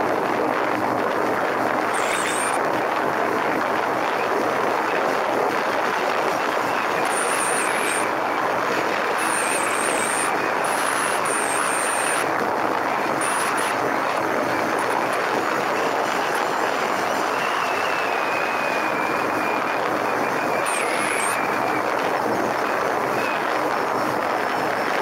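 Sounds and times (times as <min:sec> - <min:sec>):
wind and road noise: 0:00.0 - 0:25.0.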